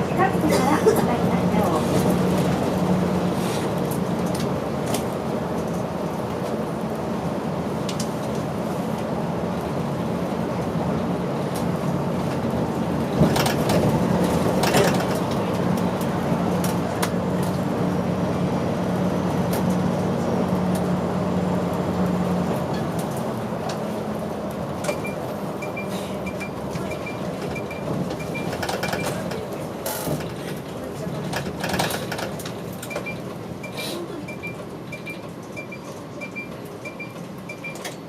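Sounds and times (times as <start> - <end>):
bus engine humming: 0.0 - 38.0.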